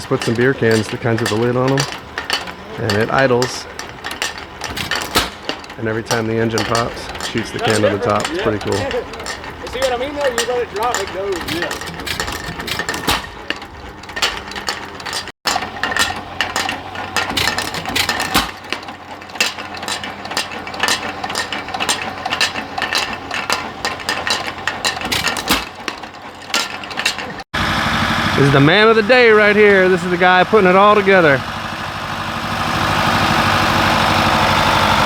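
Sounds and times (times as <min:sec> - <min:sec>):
engine machinery clattering: 0:00.0 - 0:35.0.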